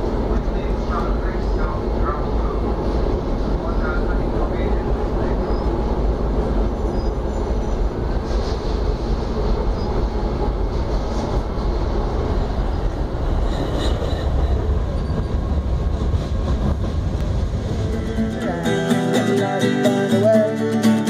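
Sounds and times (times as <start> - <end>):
tram wheels on rail: 0.0 - 21.0.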